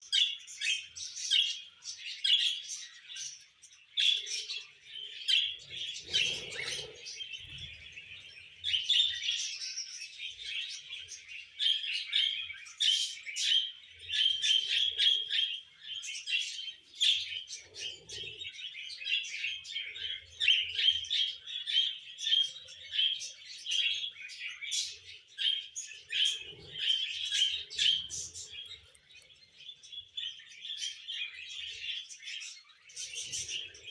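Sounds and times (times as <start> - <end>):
parrots chirping and chattering: 0.0 - 33.9.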